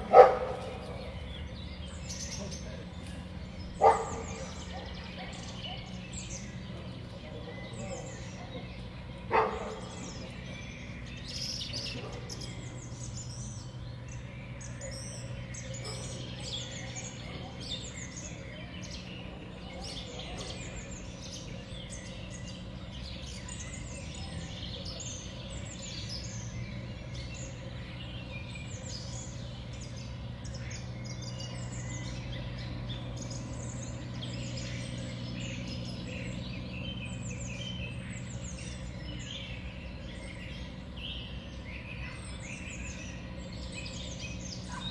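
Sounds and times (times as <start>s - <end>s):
songbirds chirping and calling: 0.0s - 44.9s.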